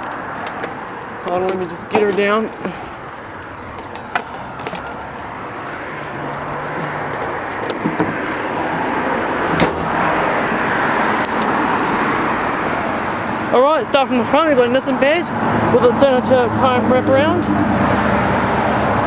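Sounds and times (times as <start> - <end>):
vehicle tyre and engine noise: 0.0 - 19.0.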